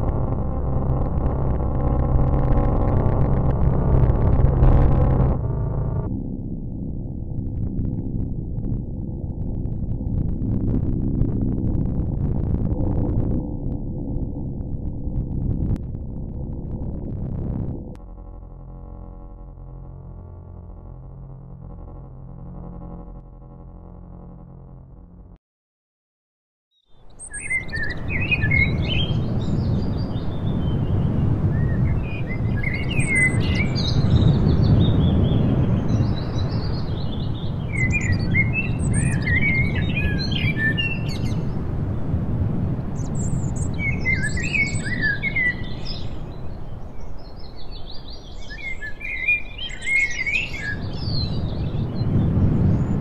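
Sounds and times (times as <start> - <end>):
low rumbling noise: 0.0 - 25.4, 27.0 - 53.0.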